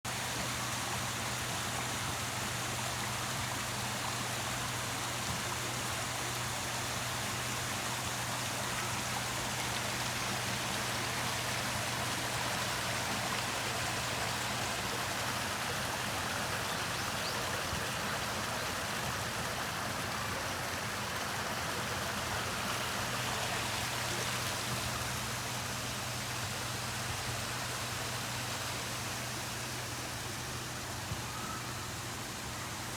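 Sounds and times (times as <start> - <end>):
waterfall rushing and splashing: 0.1 - 32.9.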